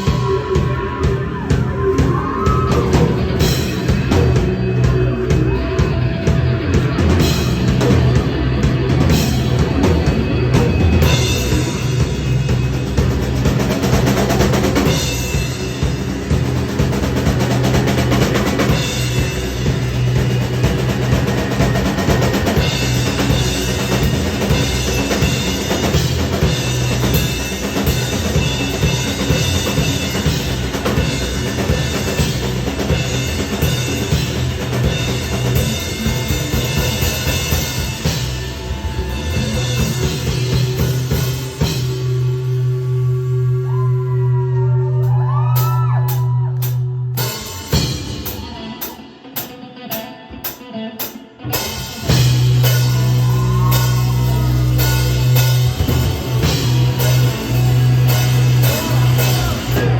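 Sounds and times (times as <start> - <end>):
drum kit beat: 0.0 - 43.9, 44.9 - 59.9
rock band playing live: 0.0 - 59.9.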